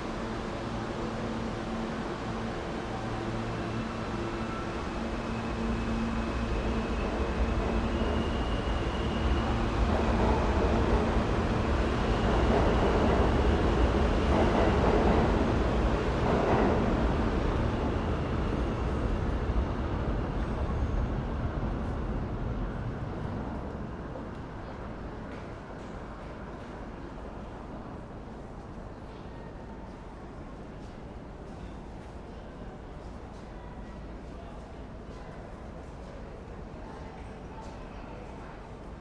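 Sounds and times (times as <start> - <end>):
subway train rumbling on tracks: 0.0 - 39.0.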